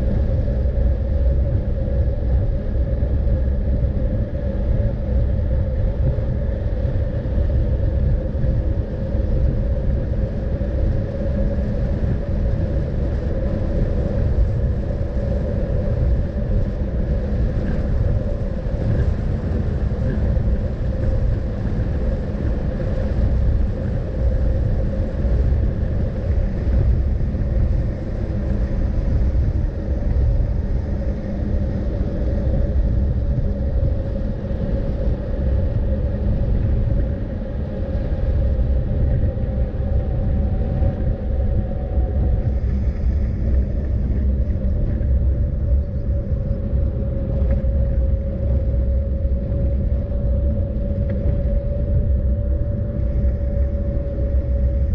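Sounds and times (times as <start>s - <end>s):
constant hum: 0.0s - 54.9s
road and wind noise: 0.0s - 54.9s.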